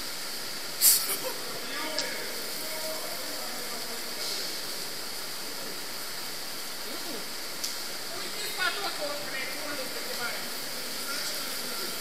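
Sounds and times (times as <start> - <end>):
underground river rushing: 0.0 - 12.0.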